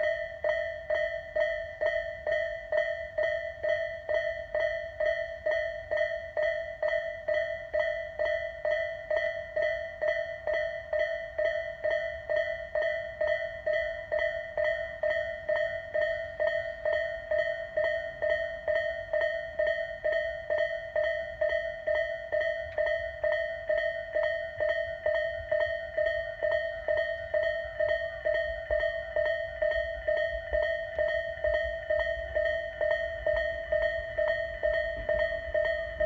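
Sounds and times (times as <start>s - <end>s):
level crossing warning bell: 0.0s - 36.0s.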